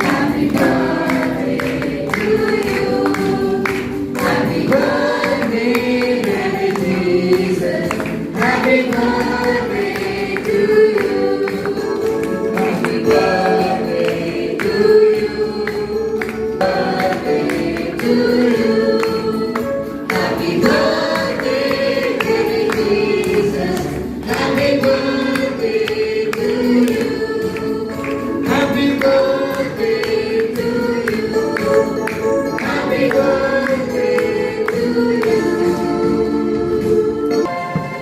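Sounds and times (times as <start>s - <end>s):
choir singing a hymn: 0.0s - 38.0s
instrumental accompaniment: 0.0s - 38.0s.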